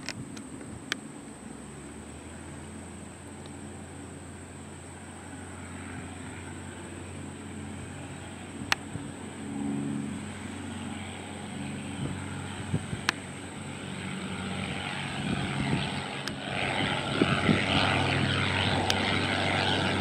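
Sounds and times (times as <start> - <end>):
light airplane engine drone: 0.0 - 20.0.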